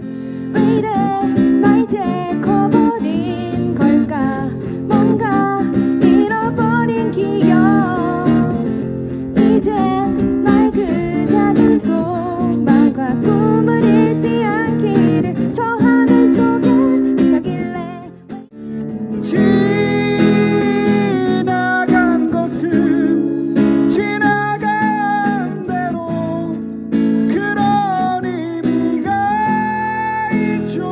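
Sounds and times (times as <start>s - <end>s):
person singing: 0.0s - 18.3s, 18.9s - 26.6s, 27.2s - 30.9s
strummed acoustic guitar: 0.0s - 30.9s.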